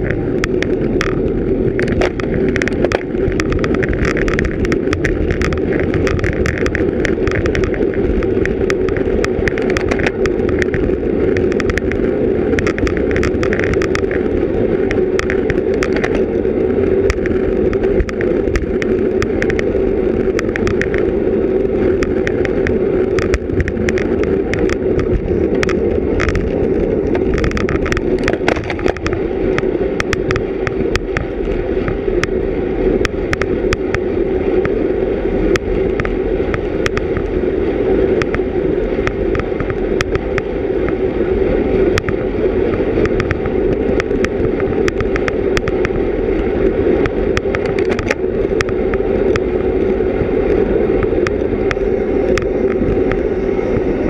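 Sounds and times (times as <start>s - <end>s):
road noise: 0.0s - 54.0s
wind rushing: 0.0s - 54.0s.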